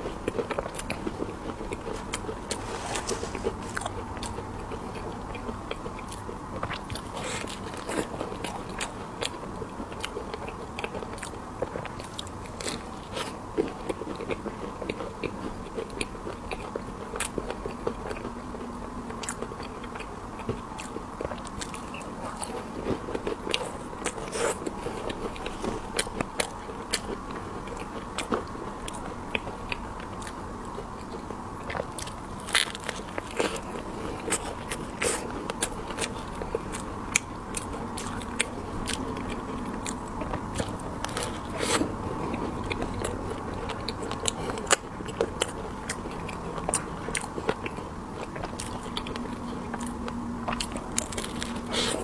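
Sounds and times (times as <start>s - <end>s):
chewing: 0.0s - 52.0s.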